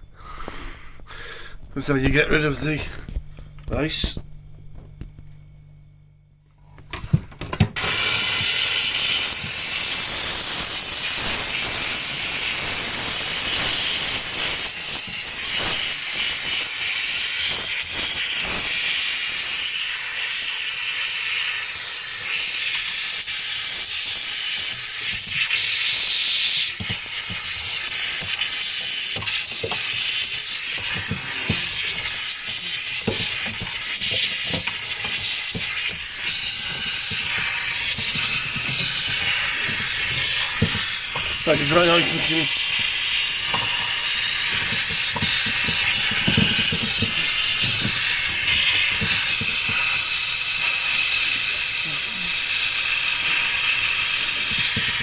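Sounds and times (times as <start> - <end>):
steam cleaner hissing: 7.7 - 55.0.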